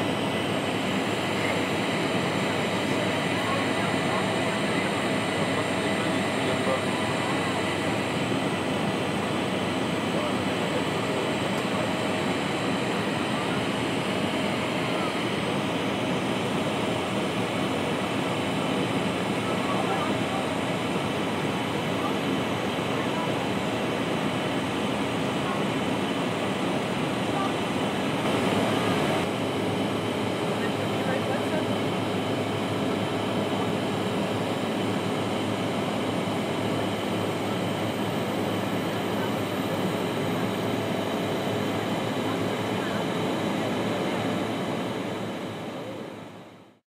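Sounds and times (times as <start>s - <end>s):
airliner cabin noise: 0.0s - 46.5s
jet engines droning: 0.0s - 46.8s.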